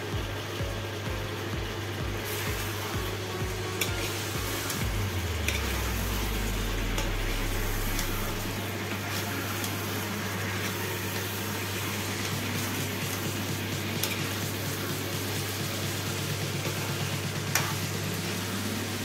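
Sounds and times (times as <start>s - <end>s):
low hum: 0.2s - 19.0s.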